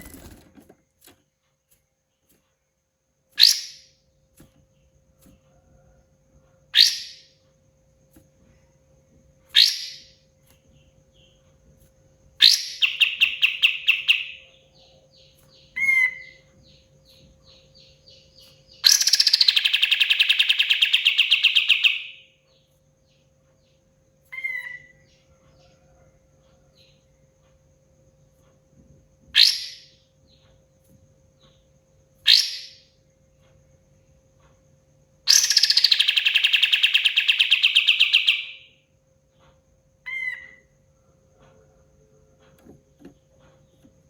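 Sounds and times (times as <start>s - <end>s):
faint steady hum: 0.0s - 44.0s
bird singing: 3.4s - 5.0s, 5.8s - 7.5s, 8.4s - 28.4s, 29.3s - 34.5s, 35.2s - 44.0s.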